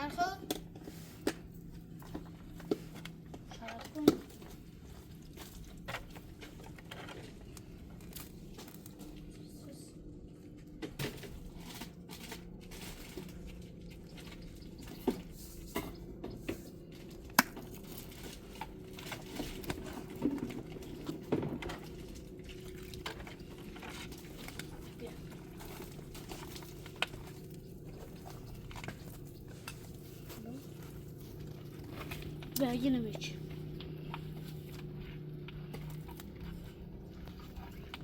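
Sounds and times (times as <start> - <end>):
food preparation clicks and rustles: 0.0 - 38.0
low steady hum: 0.0 - 38.0.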